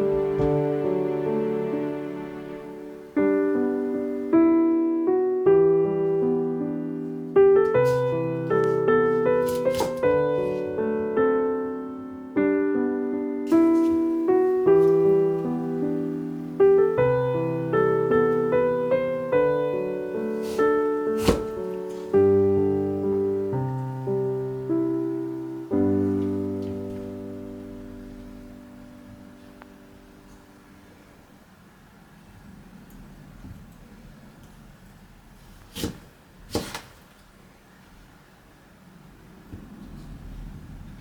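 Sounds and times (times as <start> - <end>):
soft piano music: 0.0 - 33.7.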